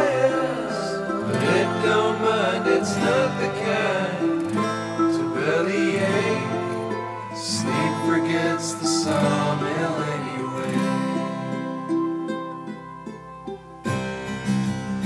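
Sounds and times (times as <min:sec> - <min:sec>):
acoustic guitar plucked and strummed: 0:00.0 - 0:15.0.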